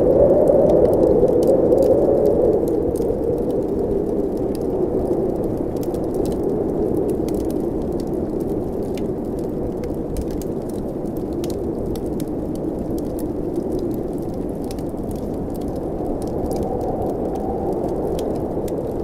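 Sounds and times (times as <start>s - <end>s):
howling blizzard wind: 0.0s - 19.0s
wood fire crackling: 0.0s - 19.0s.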